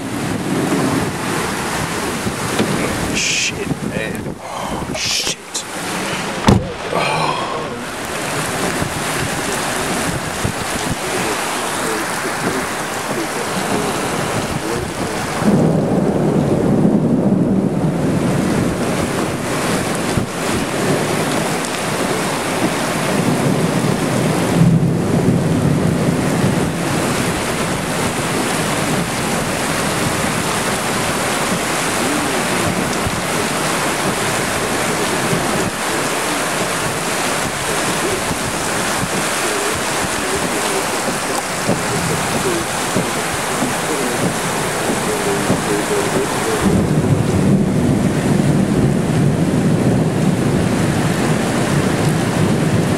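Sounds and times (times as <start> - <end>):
heavy rain pouring: 0.0 - 52.9
low thunder rumbles: 0.0 - 52.9
wind buffeting microphone: 0.0 - 52.9.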